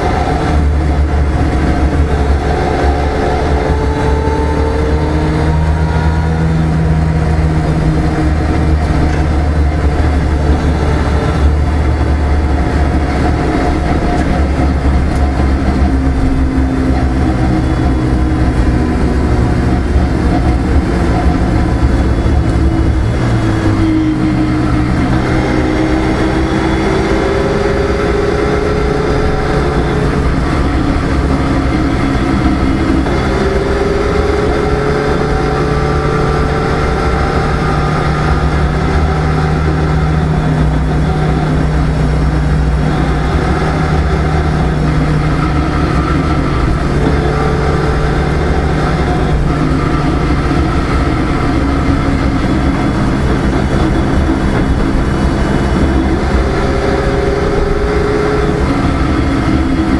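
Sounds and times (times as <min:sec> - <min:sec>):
rally car engine revving: 0:00.0 - 0:59.9
road noise: 0:00.0 - 0:59.9.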